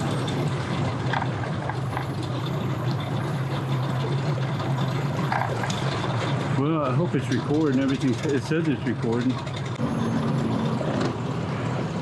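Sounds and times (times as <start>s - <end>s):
boat engine running: 0.0s - 12.0s
water churning and splashing: 0.0s - 12.0s.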